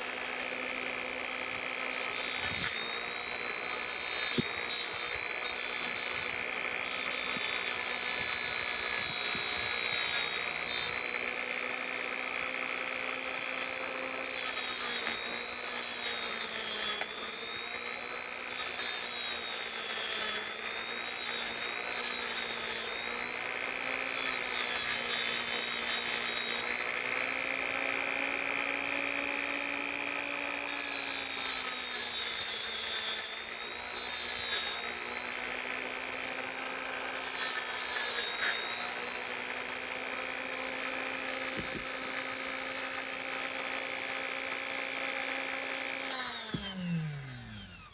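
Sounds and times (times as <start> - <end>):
rotary tool whining: 0.0 - 47.9.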